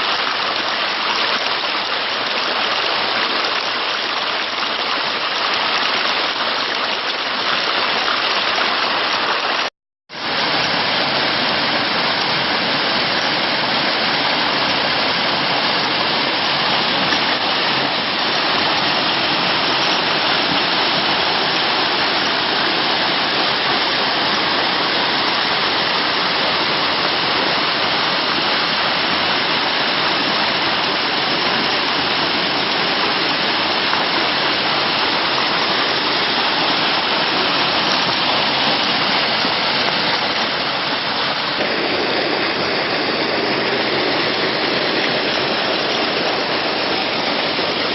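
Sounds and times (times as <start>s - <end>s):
running water rushing: 0.0s - 47.9s.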